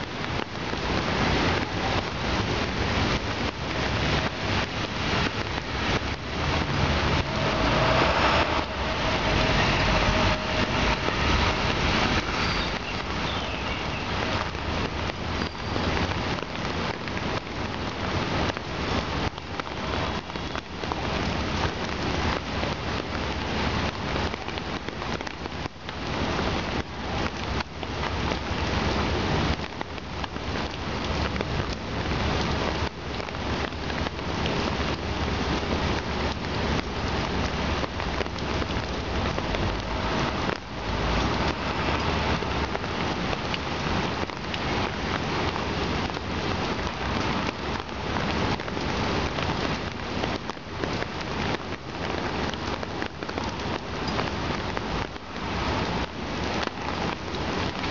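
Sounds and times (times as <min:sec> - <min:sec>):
rain falling on pool water: 0:00.0 - 0:57.9.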